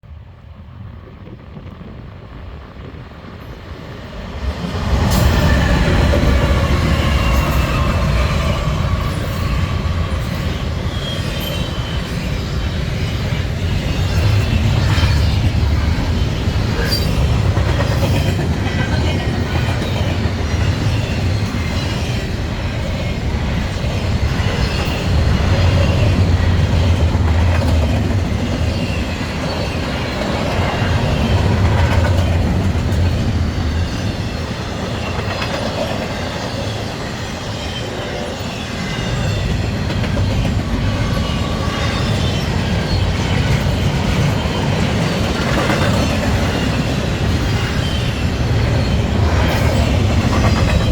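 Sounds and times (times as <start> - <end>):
freight train rumble: 0.0 - 50.9.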